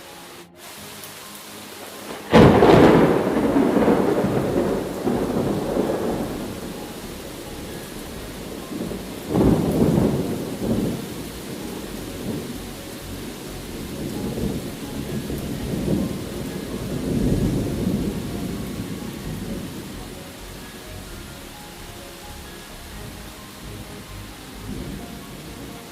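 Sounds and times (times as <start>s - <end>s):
steady rain: 0.0s - 25.9s
rolling thunder: 1.8s - 22.0s, 22.6s - 25.9s.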